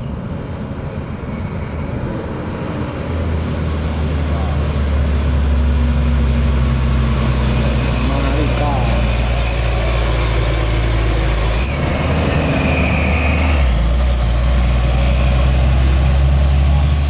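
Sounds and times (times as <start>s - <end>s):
heavy truck engine running: 0.0s - 17.0s
high whine: 2.9s - 17.0s.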